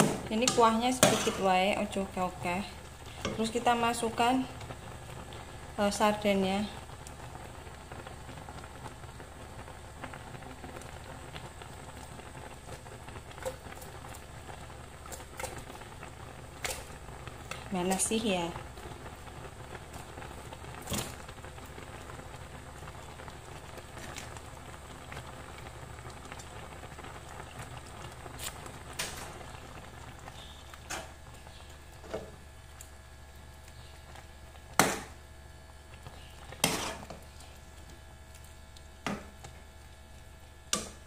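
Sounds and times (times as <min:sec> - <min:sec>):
water boiling and bubbling: 0:00.0 - 0:41.0.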